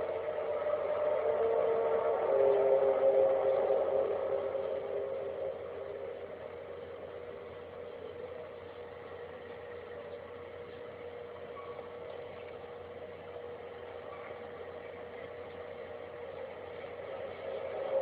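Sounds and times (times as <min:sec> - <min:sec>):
steady droning hum: 0:00.0 - 0:18.0.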